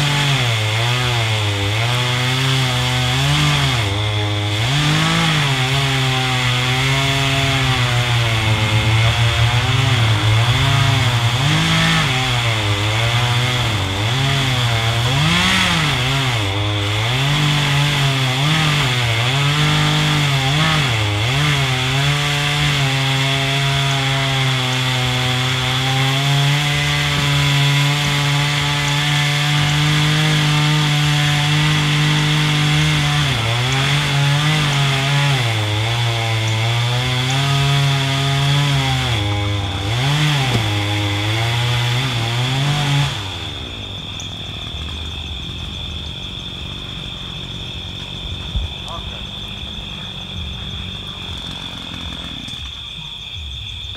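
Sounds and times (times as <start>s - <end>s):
small engine running: 0.0s - 52.7s.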